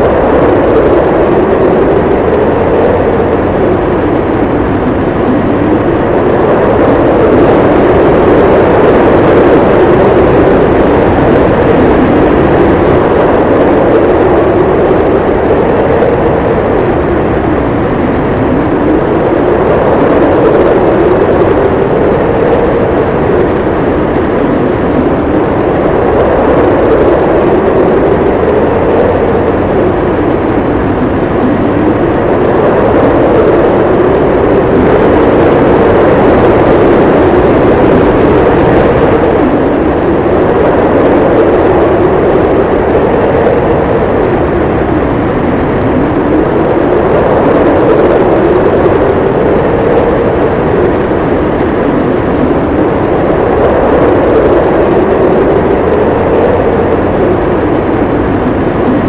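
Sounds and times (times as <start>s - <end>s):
howling snowstorm wind: 0.0s - 59.0s.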